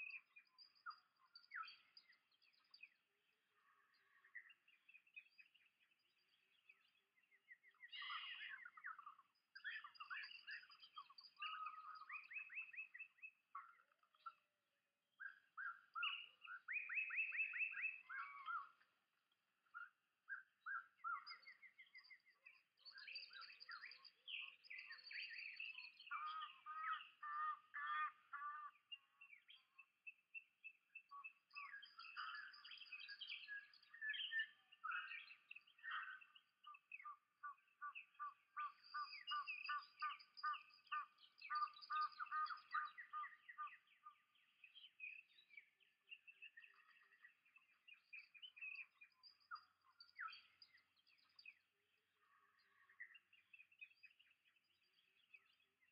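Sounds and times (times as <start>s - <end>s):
birds chirping and singing: 0.0s - 14.5s, 15.1s - 55.9s.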